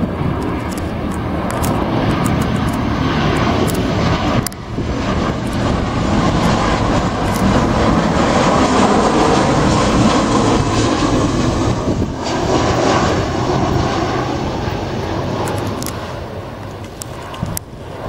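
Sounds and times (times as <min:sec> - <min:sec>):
airliner engines roaring: 0:00.0 - 0:18.0.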